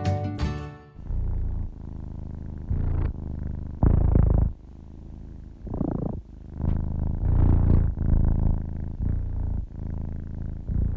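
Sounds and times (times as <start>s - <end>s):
kitten purring: 1.0s - 10.9s.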